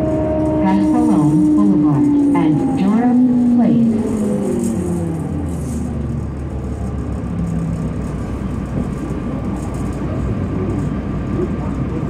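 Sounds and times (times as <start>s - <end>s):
diesel bus engine drone: 0.0s - 12.0s
road noise: 0.0s - 12.0s.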